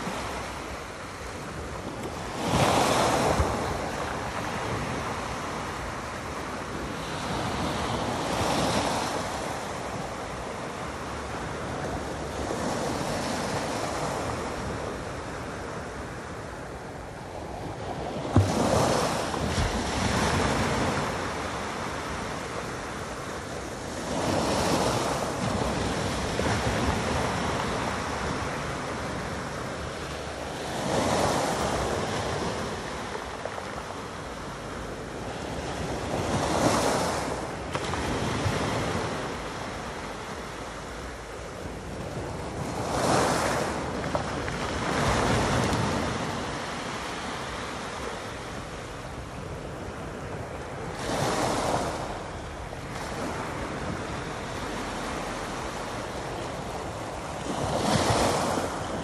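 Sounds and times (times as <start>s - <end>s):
waves washing on pebble beach: 0.0s - 59.0s.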